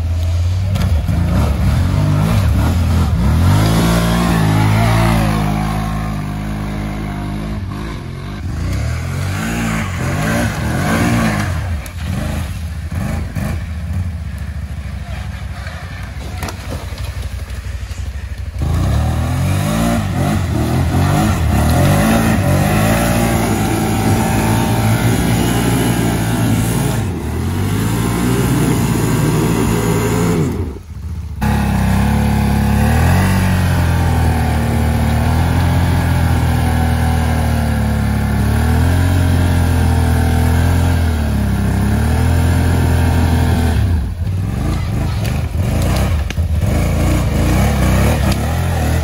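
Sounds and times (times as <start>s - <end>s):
quad bike engines revving: 0.0s - 49.0s.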